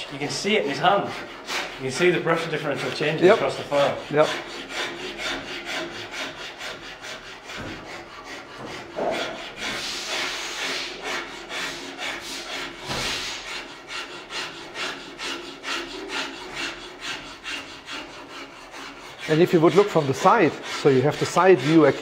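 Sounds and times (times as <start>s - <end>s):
hand file filing wood: 0.0s - 22.0s.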